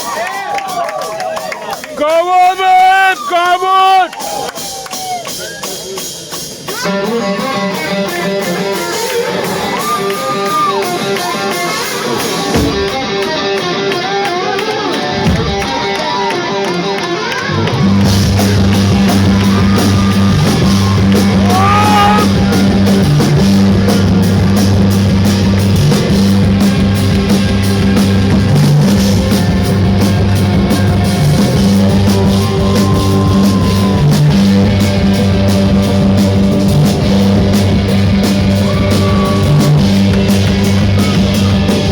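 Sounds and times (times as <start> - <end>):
drums: 0.0 - 41.9
bass guitar: 6.7 - 41.9.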